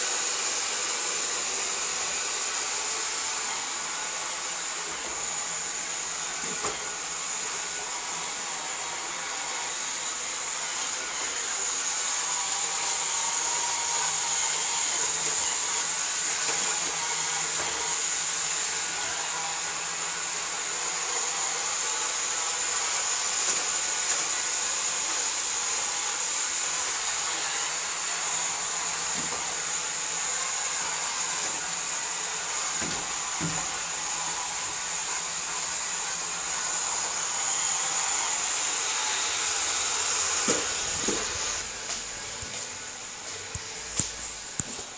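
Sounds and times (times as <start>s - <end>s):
robot vacuum cleaner whirring: 0.0s - 44.9s.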